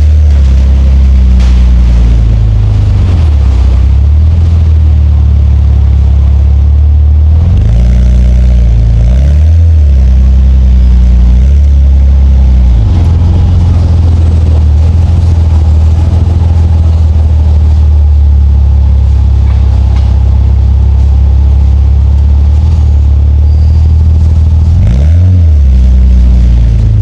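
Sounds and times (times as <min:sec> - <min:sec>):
car engine drone with revving: 0:00.0 - 0:27.0.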